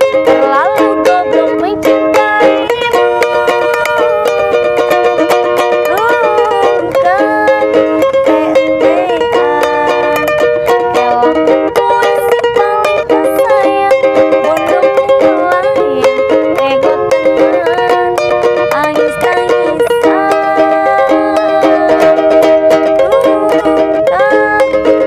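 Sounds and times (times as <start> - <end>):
strummed ukulele: 0.0 - 25.0
woman singing pop song: 0.3 - 4.8, 5.8 - 10.3, 10.9 - 22.2, 22.9 - 25.0.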